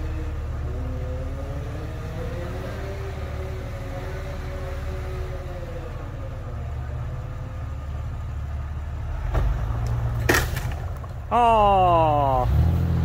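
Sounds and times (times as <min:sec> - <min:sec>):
engines rumbling at low revs: 0:00.0 - 0:13.0.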